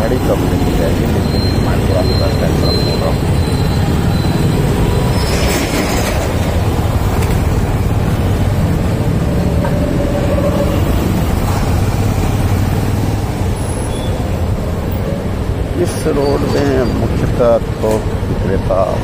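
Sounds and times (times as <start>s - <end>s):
motorcycle engine rumble: 0.0s - 18.8s
surrounding traffic engines: 0.0s - 19.0s.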